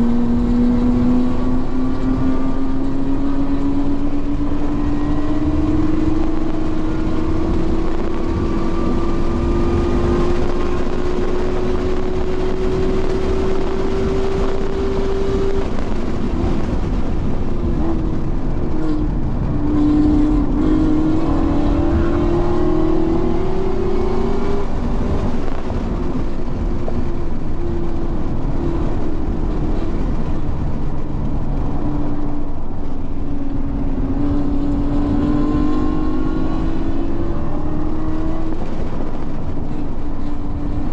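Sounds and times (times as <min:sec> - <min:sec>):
car engine under hard throttle: 0:00.0 - 0:40.9
road and wind rumble: 0:00.0 - 0:40.9.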